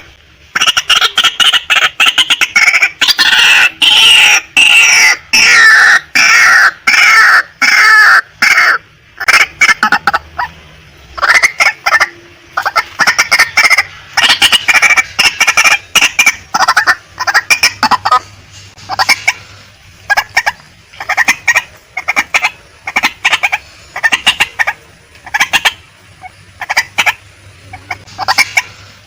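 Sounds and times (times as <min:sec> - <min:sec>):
waterhen calling harshly: 0:00.0 - 0:29.0.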